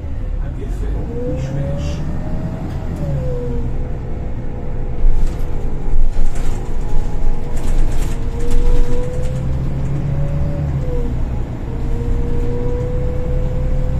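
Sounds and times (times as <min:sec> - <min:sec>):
bus engine drone and whine: 0:00.0 - 0:13.9
rattling inside bus: 0:00.0 - 0:13.9.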